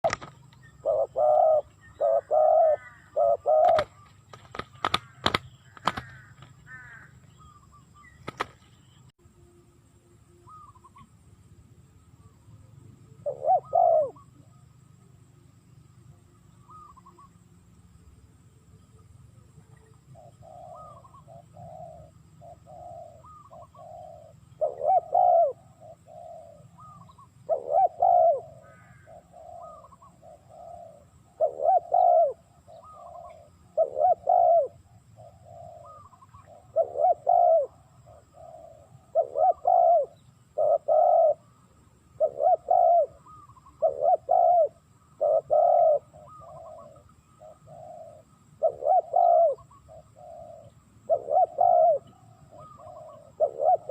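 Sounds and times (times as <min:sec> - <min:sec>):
doves cooing: 0:00.0 - 0:09.1, 0:13.0 - 0:14.7, 0:16.6 - 0:17.4, 0:19.6 - 0:53.9.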